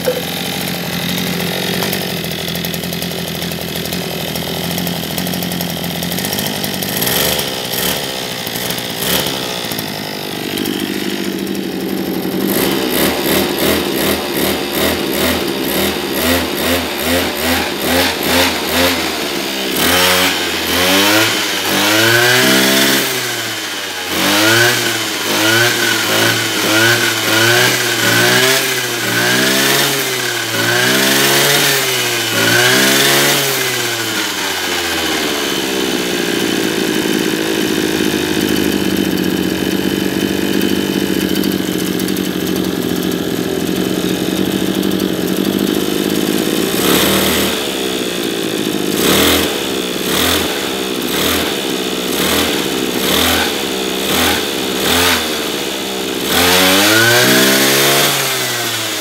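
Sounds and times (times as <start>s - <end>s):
brush cutter engine revving: 0.0s - 59.0s.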